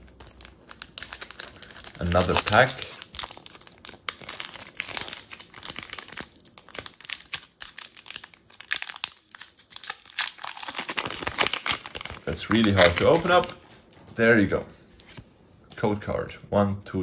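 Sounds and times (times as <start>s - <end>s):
foil wrapper crinkling: 0.0s - 13.7s.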